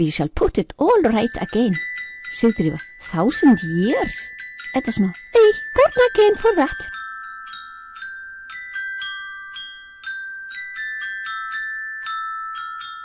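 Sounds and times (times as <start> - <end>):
slow bell-like melody: 0.9 - 13.0.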